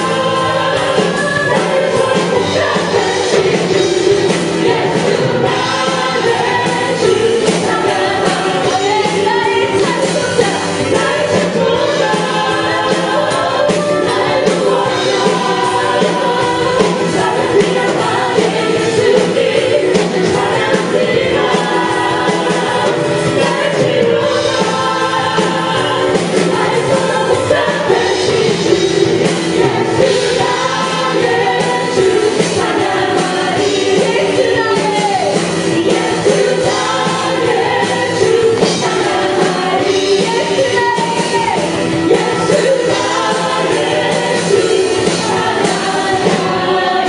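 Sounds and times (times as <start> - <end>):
congregation singing along: 0.0 - 47.0
group of singers: 0.0 - 47.0
praise band playing: 0.0 - 47.0.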